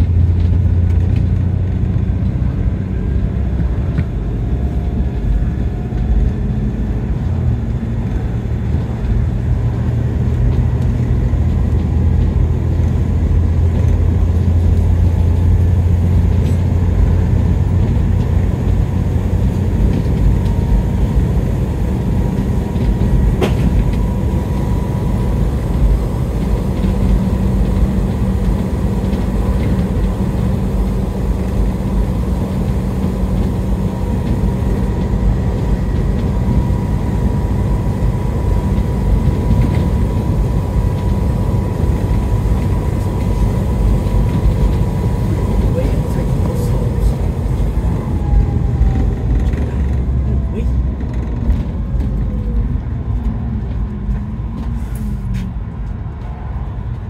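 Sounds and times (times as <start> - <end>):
bus engine drone: 0.0 - 57.0
road noise: 0.0 - 57.0.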